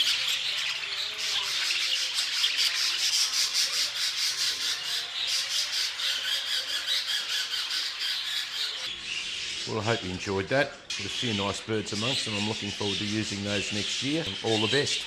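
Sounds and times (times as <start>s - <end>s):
budgerigars chattering and squawking: 0.0s - 15.0s.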